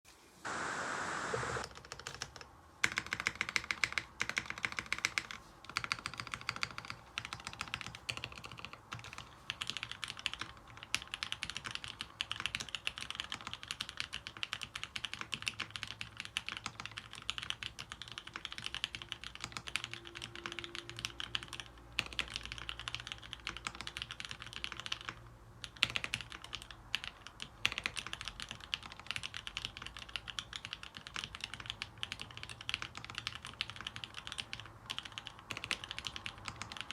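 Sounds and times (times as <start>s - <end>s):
mechanical keyboard typing: 1.6s - 36.9s.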